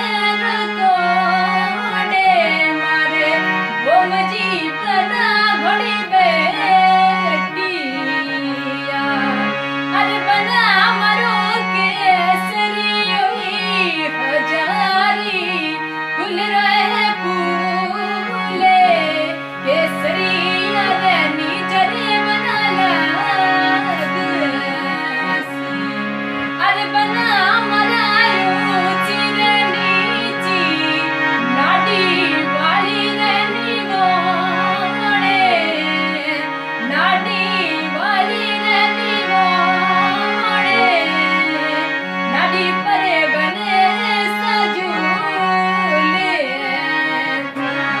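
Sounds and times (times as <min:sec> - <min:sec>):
person singing ornamented melody: 0:00.0 - 0:48.0.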